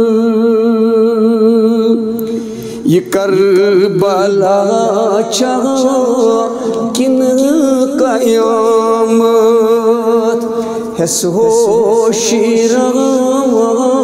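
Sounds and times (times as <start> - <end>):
man singing a devotional hymn: 0.0 - 14.0.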